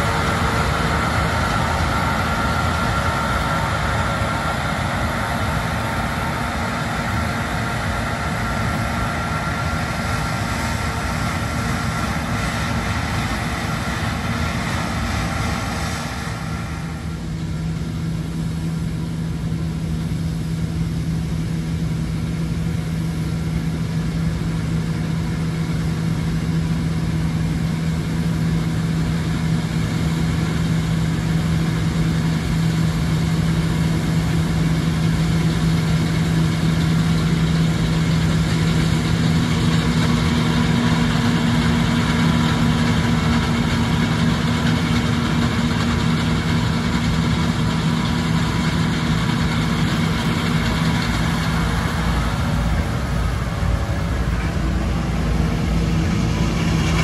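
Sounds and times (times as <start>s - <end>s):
combine harvester engine drone: 0.0s - 57.0s
tractor engine hum: 0.0s - 57.0s.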